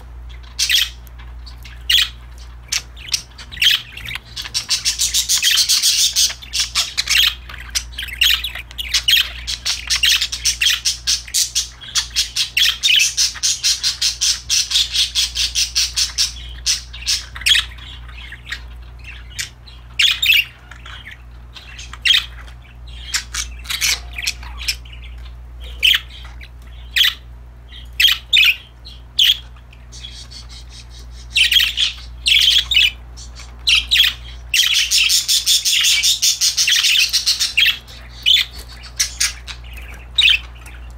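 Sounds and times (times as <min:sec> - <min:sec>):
budgerigars chattering and chirping: 0:00.0 - 0:40.9
low steady hum: 0:00.0 - 0:40.9.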